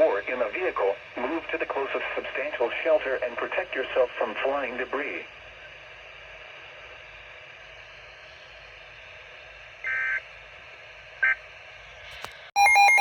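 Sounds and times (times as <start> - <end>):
radio static hiss: 0.0 - 12.5.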